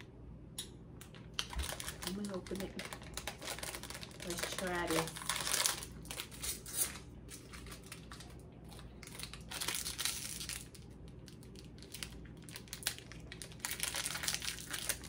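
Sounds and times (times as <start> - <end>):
candy wrapper crinkling and tearing: 1.1 - 15.0.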